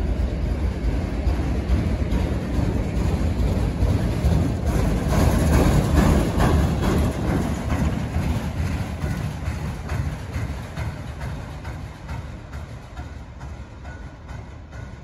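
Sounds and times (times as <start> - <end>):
freight train low rumble: 0.0 - 15.0
wheels clicking over rail joints: 0.0 - 15.0.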